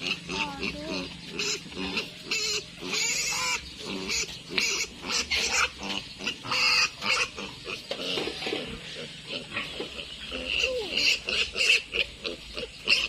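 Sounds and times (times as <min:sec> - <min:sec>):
piglets squealing: 0:00.0 - 0:13.0.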